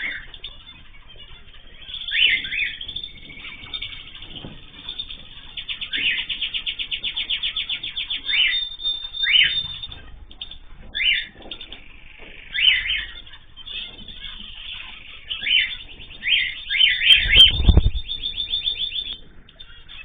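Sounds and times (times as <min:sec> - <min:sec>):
bird trilling: 0:00.0 - 0:20.0.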